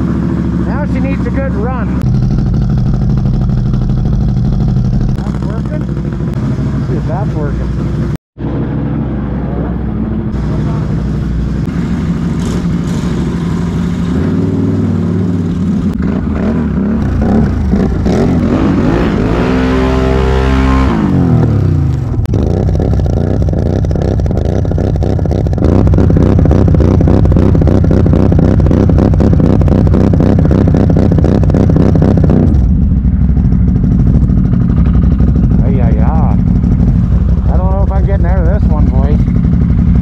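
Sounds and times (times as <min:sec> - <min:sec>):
atv engine revving: 0:00.0 - 0:40.0.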